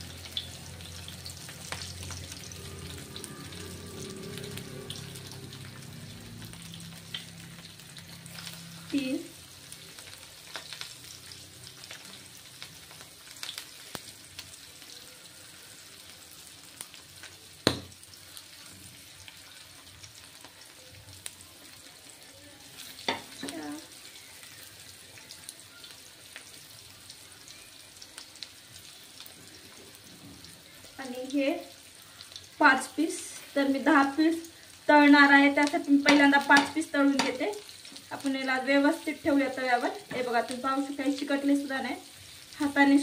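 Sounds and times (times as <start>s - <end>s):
fish sizzling in oil: 0.0s - 43.0s.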